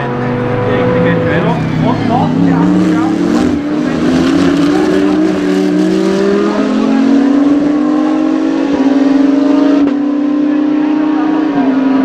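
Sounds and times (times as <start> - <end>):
race car engines accelerating: 0.0 - 12.0.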